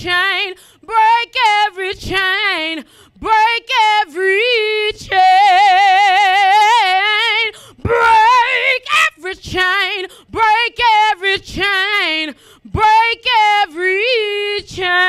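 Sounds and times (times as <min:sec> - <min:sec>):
woman singing gospel solo: 0:00.0 - 0:15.0.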